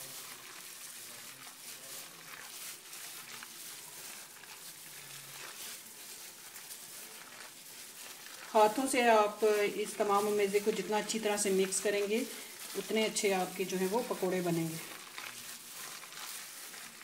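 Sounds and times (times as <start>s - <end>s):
hand squelching wet batter: 0.0s - 17.0s.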